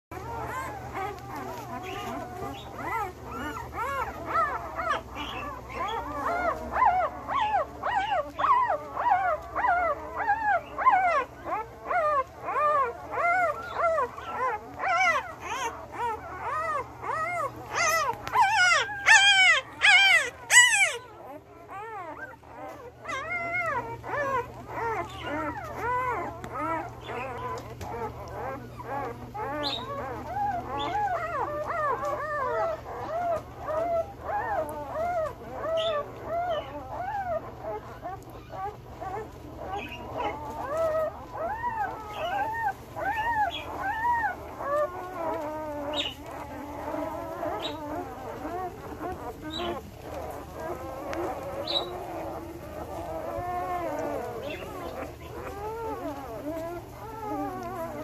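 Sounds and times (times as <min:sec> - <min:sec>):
puppies whining and squealing: 0:00.1 - 0:58.0.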